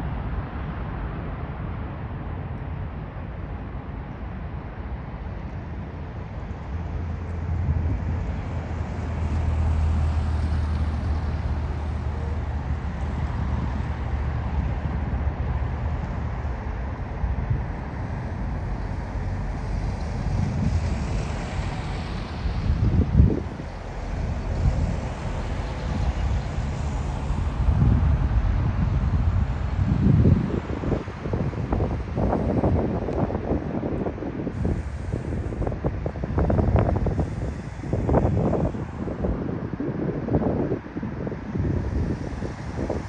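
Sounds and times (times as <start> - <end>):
jet airliner engine noise: 0.0 - 43.0
wind buffeting microphone: 0.0 - 43.0.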